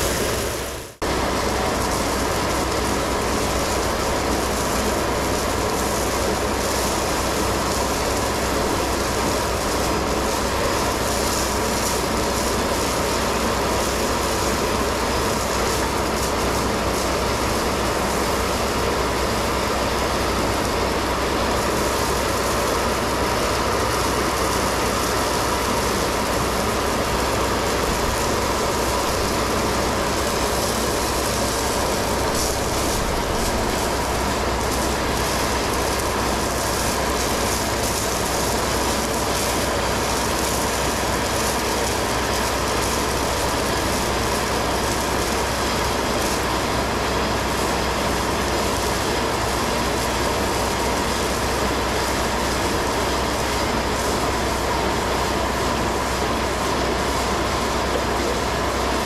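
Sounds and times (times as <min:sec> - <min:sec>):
constant machine whine: 0:00.0 - 0:59.0
stone slinger truck running: 0:00.0 - 0:59.0.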